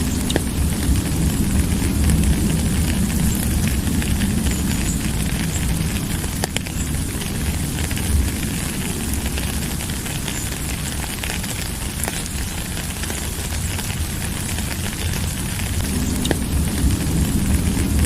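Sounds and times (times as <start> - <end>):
drips ticking: 0.0 - 18.0
low rumble: 0.0 - 18.0
rain hiss: 0.0 - 18.0.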